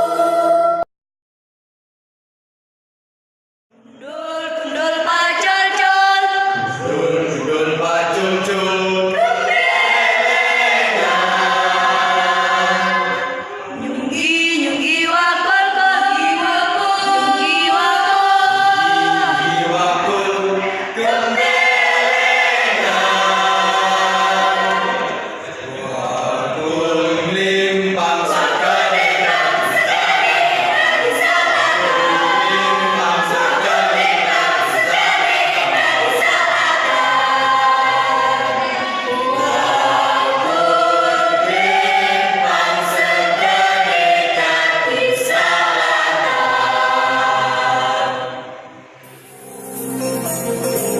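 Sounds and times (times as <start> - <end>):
mixed choir singing: 0.0 - 0.9, 3.9 - 50.9.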